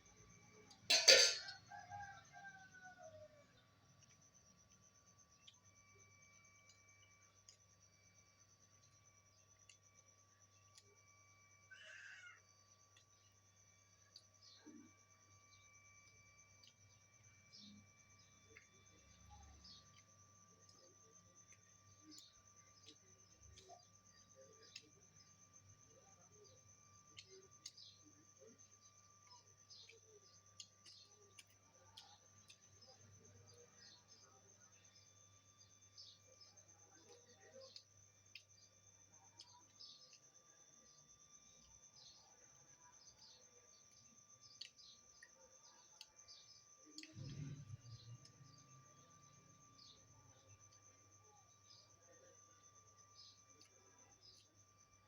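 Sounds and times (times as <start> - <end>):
insect trilling: 10.9 - 55.0.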